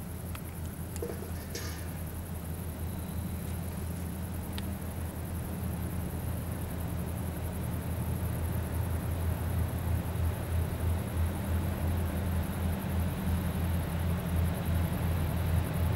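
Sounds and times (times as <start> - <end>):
diesel locomotive drone: 0.0 - 15.9.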